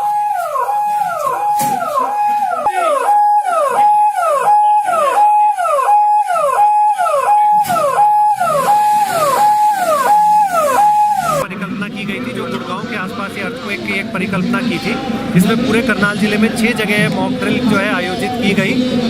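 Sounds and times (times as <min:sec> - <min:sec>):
emergency vehicle siren: 0:00.0 - 0:19.0.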